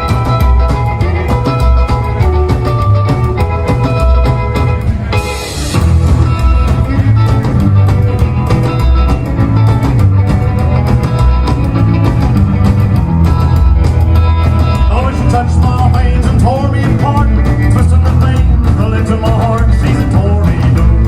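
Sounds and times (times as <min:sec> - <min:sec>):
rock band playing: 0:00.0 - 0:21.0.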